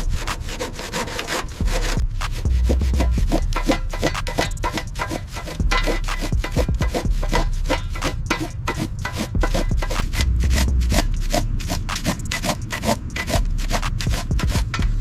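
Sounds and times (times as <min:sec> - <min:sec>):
rapid rubbing strokes: 0:00.0 - 0:15.0
steady low hum: 0:00.0 - 0:15.0.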